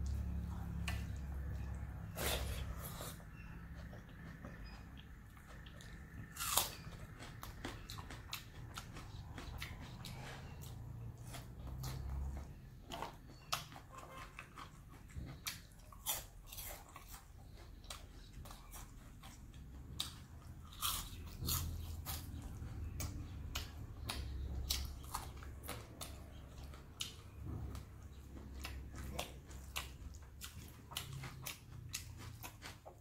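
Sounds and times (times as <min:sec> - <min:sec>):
crunchy chewing of fried fish: 0:00.0 - 0:33.0.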